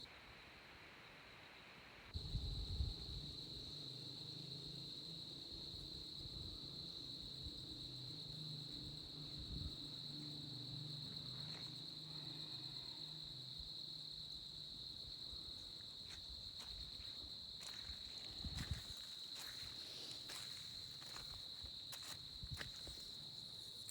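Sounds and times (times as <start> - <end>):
insects trilling: 2.1 - 23.9.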